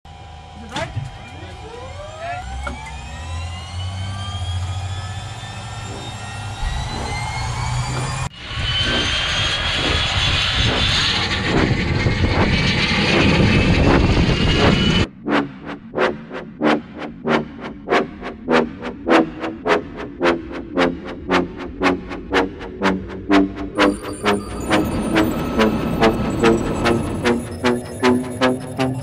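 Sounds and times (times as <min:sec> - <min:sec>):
helicopter rotor pulses: 0:00.1 - 0:29.0
turbine whine rising: 0:00.1 - 0:29.0.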